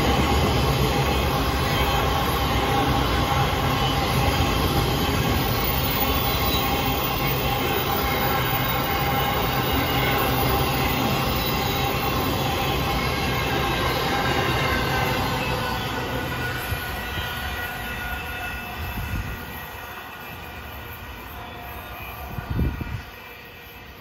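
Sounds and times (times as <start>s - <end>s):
freight train rumbling past: 0.0s - 24.0s
thin steady squeal: 0.0s - 24.0s.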